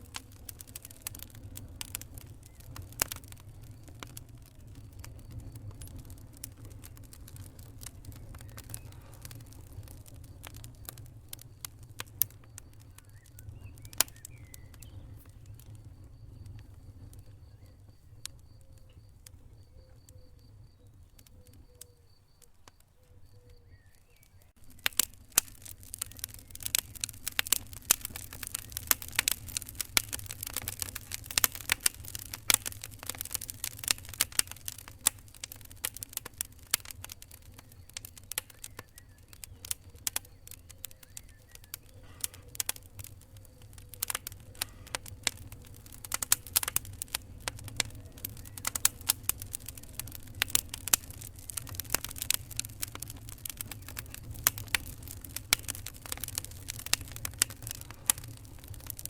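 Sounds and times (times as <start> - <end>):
fire crackling: 0.0 - 59.0.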